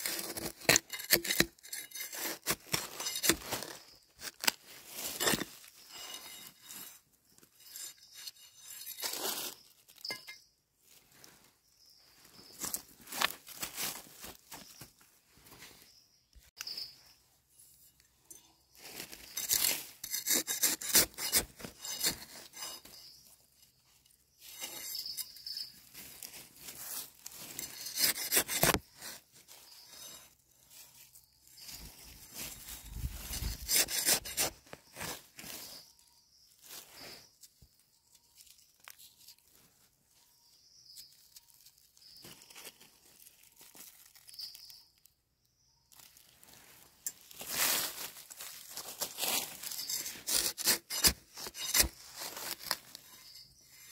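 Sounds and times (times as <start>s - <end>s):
hands scraping through dry leaves: 0.0s - 10.3s, 12.3s - 15.8s, 18.7s - 36.0s, 36.6s - 37.3s, 41.2s - 44.7s, 45.9s - 53.9s.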